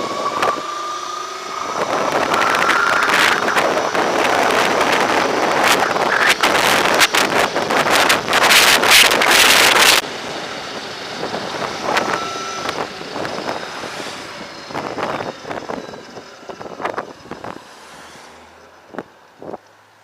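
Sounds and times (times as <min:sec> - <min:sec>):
road and traffic noise: 0:00.0 - 0:20.0
wind buffeting microphone: 0:01.4 - 0:17.7.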